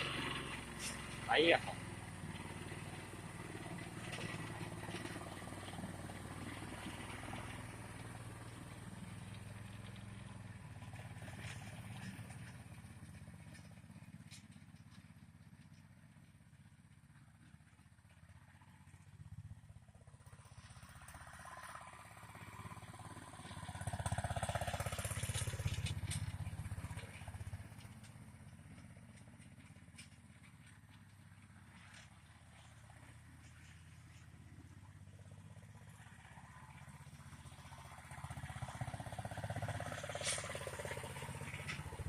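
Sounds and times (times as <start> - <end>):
small engine running and revving: 0.0 - 16.4, 17.2 - 42.0.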